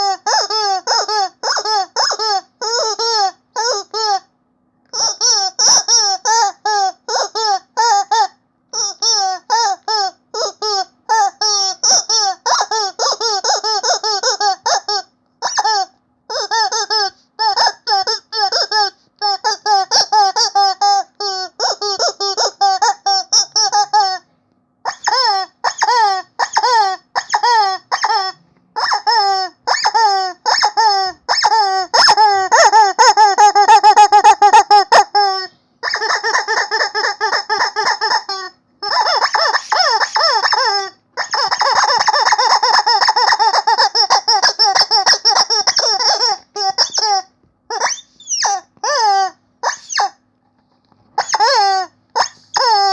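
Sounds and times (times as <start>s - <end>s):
rubber chicken toy squeaking: 0.0s - 4.3s, 4.9s - 52.9s.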